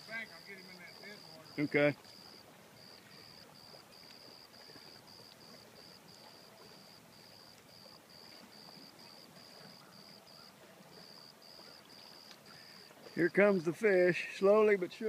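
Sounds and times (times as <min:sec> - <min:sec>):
insect chirping: 0:00.0 - 0:13.7
faint outdoor hiss: 0:00.0 - 0:15.0.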